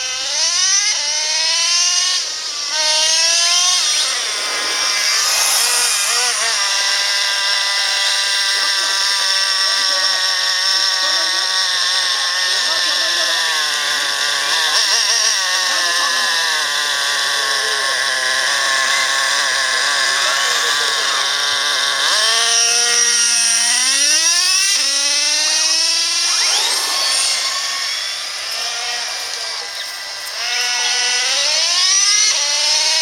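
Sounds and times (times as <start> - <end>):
rc car motor whining: 0.0 - 33.0.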